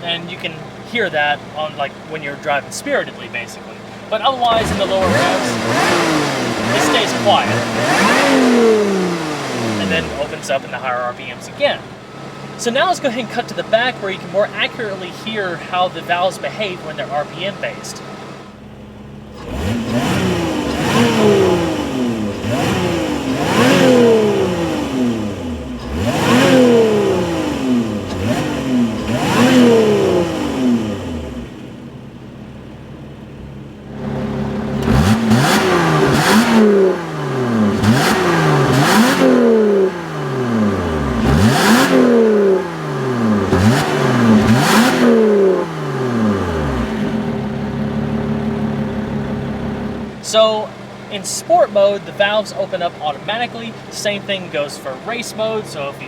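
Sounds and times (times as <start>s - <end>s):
car engine idling: 0.0s - 56.0s
car exhaust revving: 0.0s - 56.0s.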